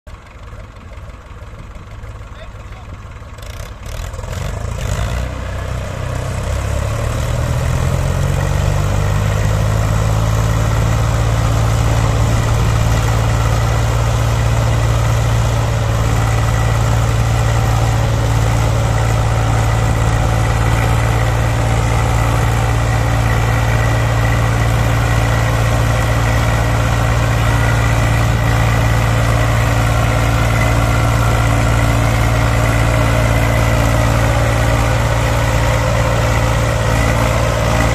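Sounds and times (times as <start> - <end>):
tractor diesel engines under load: 0.1 - 37.9.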